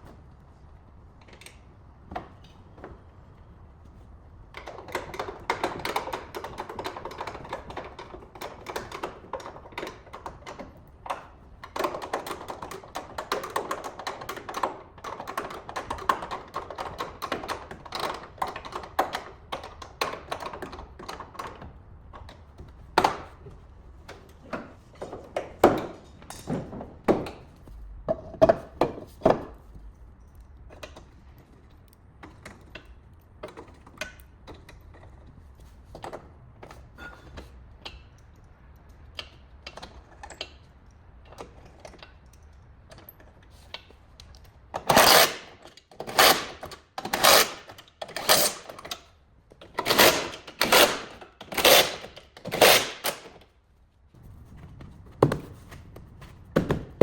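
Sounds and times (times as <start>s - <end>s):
sharp clicks and knocks: 4.5s - 36.8s, 37.8s - 53.5s.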